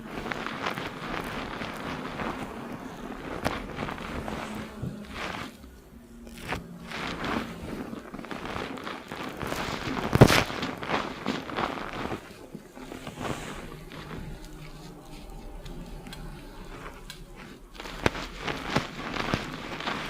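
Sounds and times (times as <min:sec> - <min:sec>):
hands scrubbing lathered hair: 0:00.0 - 0:20.0.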